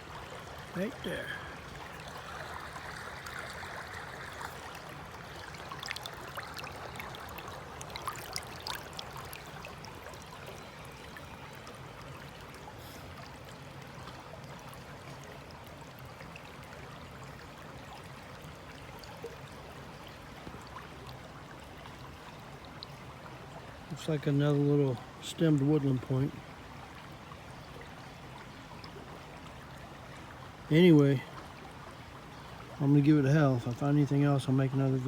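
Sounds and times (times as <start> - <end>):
creek water running: 0.0 - 35.0.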